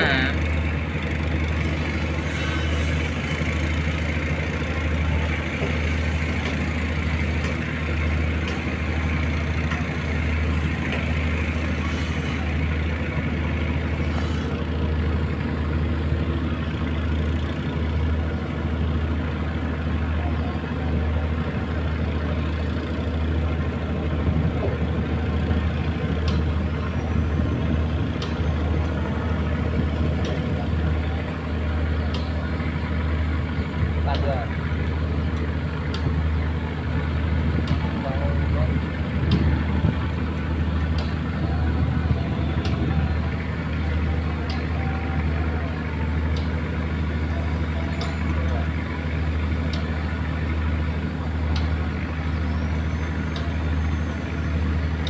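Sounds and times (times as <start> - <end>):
boat diesel engine throbbing: 0.0 - 55.0.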